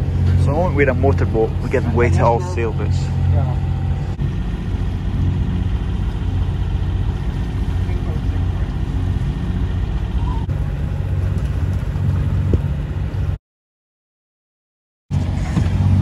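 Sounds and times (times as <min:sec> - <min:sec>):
boat engine droning: 0:00.0 - 0:13.4, 0:15.1 - 0:16.0.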